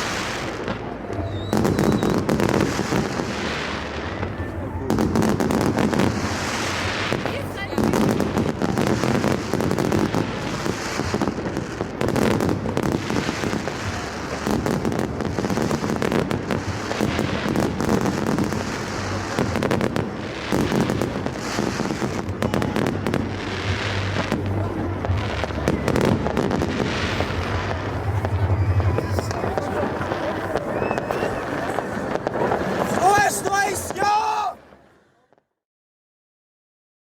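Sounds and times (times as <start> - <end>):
fireworks bangs and crackles: 0.0 - 35.5.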